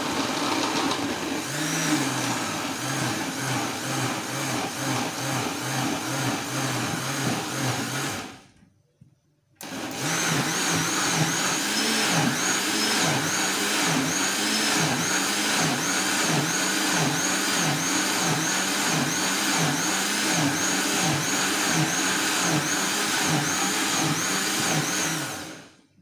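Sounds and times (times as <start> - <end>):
blender motor running: 0.0 - 8.4, 9.6 - 25.8.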